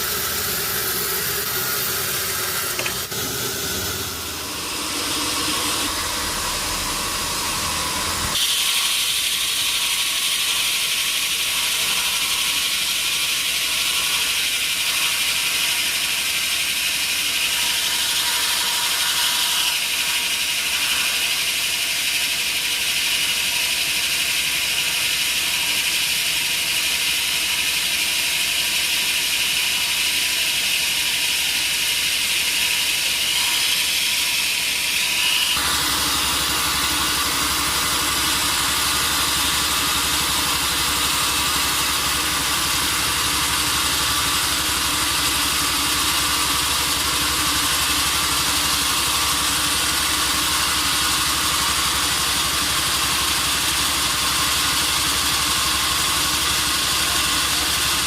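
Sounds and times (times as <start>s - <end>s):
mill engine running: 0.0s - 58.0s
saw blade cutting log: 0.0s - 58.0s.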